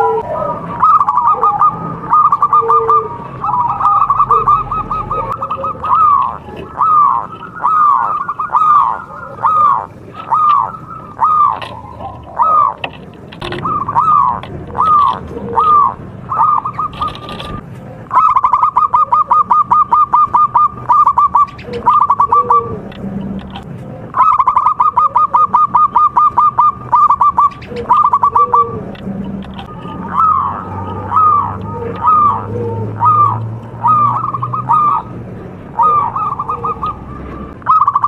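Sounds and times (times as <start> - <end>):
dove cooing and trilling: 0.0 - 38.0.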